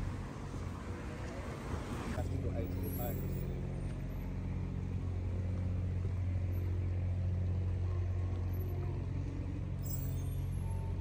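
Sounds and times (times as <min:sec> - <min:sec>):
constant hum: 0:00.0 - 0:11.0
road traffic rumble: 0:00.0 - 0:11.0.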